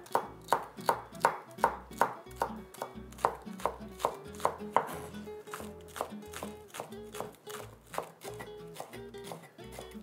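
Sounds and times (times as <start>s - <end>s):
knife chopping on wooden board: 0.0s - 10.0s.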